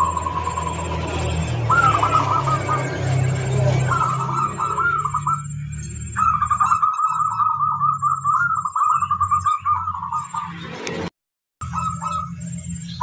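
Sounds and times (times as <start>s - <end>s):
dove singing: 0.0s - 13.0s.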